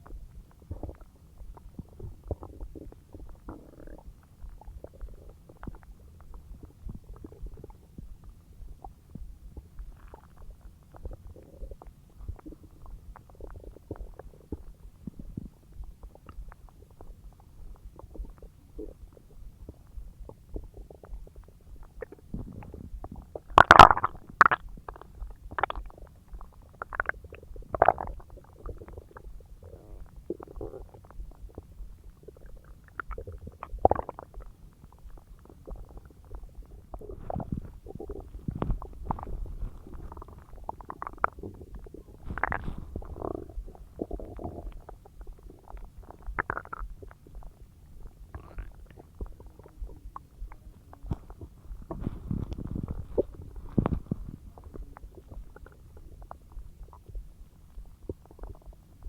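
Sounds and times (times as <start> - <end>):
stomach gurgling and rumbling: 0.0 - 59.0.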